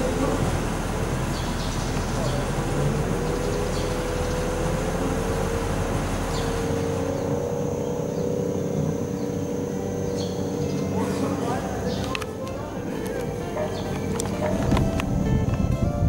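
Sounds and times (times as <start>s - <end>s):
boat hoist machine whine: 0.0s - 16.0s
low machine rumble: 0.0s - 16.0s.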